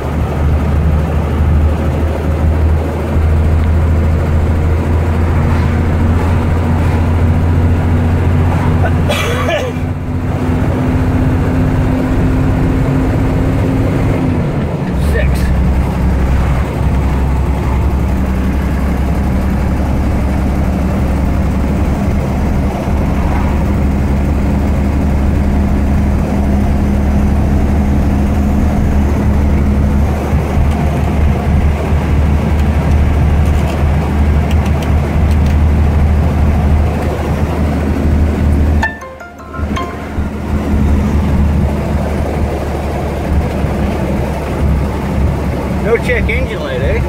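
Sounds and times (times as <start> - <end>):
road noise: 0.0 - 47.0
truck engine running: 0.0 - 47.0.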